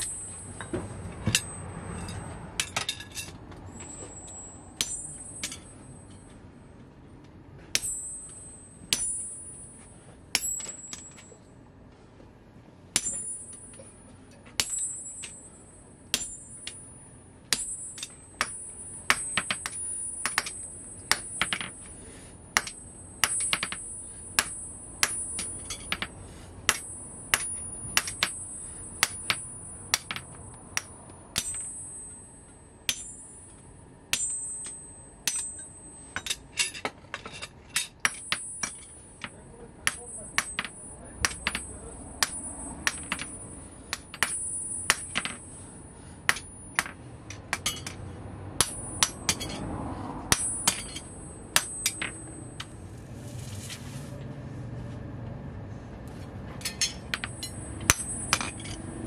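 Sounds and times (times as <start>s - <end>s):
hammer striking steel on anvil: 0.0s - 6.4s, 7.6s - 11.4s, 12.9s - 52.8s, 56.5s - 59.0s.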